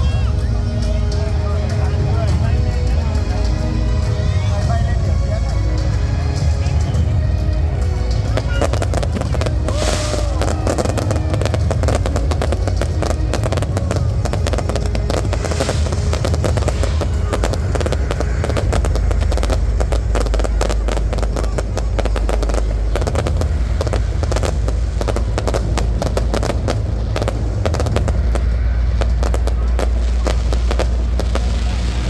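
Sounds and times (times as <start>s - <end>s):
fireworks crackling: 0.0s - 32.0s
low rumble: 0.0s - 32.0s.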